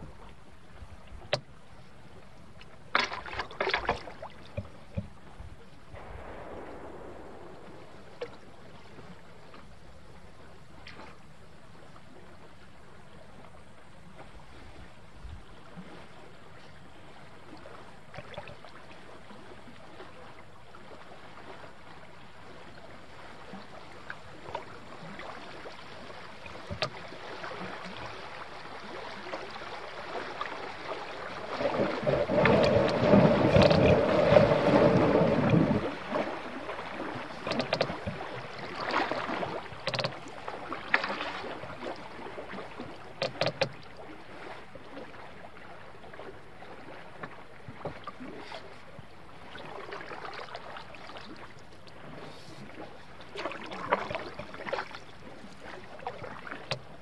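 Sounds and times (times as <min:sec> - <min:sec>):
water rushing around canoe hull: 0:00.0 - 0:57.0.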